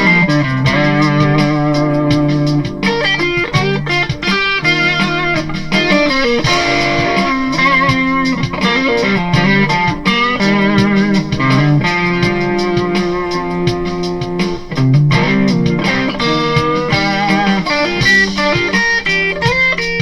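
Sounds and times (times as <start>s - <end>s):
electric guitar lead lines: 0.0s - 20.0s.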